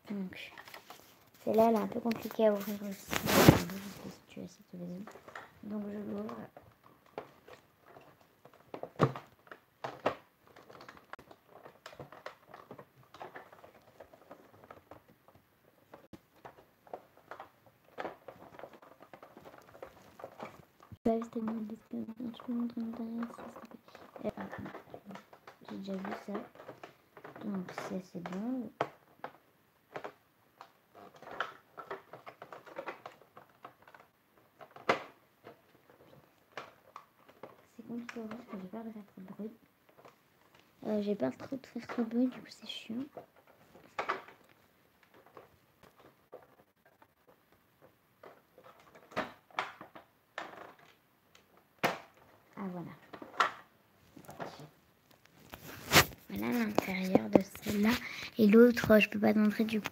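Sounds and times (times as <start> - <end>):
plastic toy clicking and knocking: 4.3 - 59.9.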